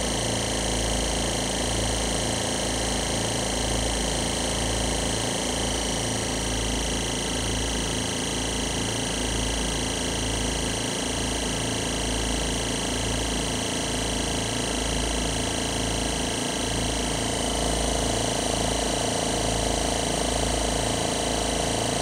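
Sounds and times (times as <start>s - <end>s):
air compressor throbbing hum: 0.0s - 22.0s.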